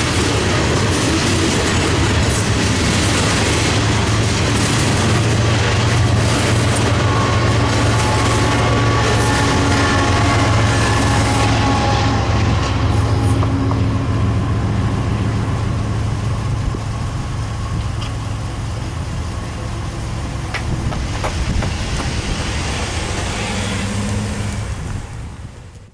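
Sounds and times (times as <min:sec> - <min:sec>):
freight train rumble: 0:00.0 - 0:25.9.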